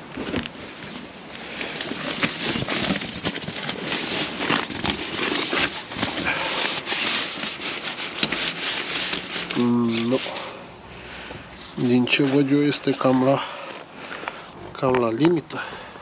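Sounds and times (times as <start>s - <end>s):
nylon air pad rustling: 0.0s - 15.9s.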